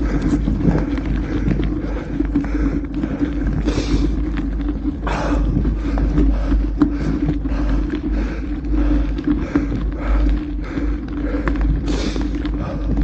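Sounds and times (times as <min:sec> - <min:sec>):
bike clicks and rattles: 0:00.0 - 0:13.0
bike tyres on gravel: 0:00.0 - 0:13.0
wind rumble on microphone: 0:00.0 - 0:13.0.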